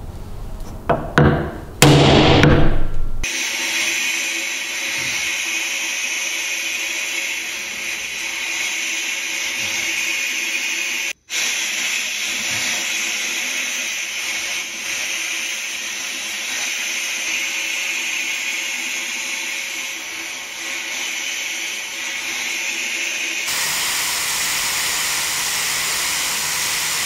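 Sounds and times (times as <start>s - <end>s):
electric power tool whirring: 3.2s - 27.0s.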